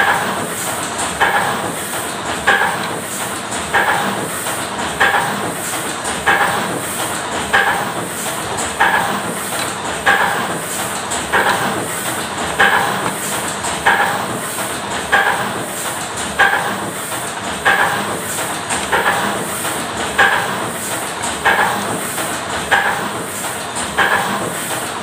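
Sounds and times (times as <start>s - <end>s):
printing press clunk and swish: 0.0s - 25.0s
steady mechanical noise: 0.0s - 25.0s.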